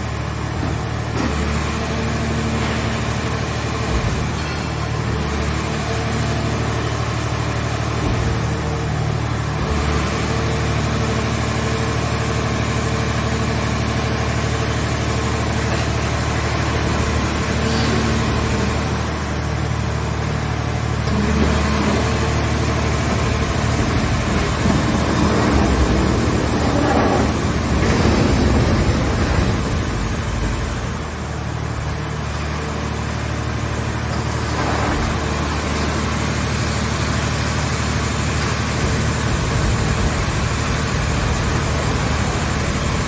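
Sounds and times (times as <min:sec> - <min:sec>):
baler engine and hydraulics running: 0:00.0 - 0:43.0.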